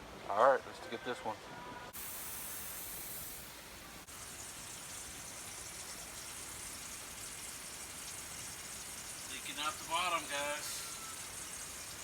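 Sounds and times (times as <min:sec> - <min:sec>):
steady high hiss: 0:01.9 - 0:12.0.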